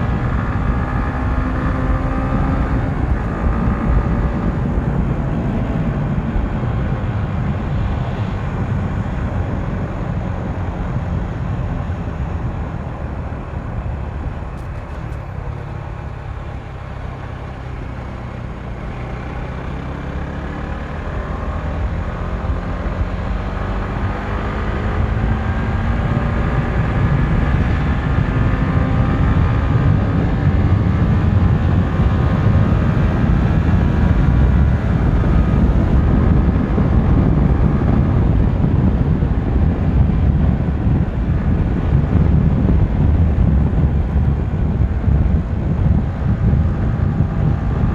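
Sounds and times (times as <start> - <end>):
motorcycle engine accelerating: 0.0 - 47.9
wind rush on microphone: 0.0 - 47.9.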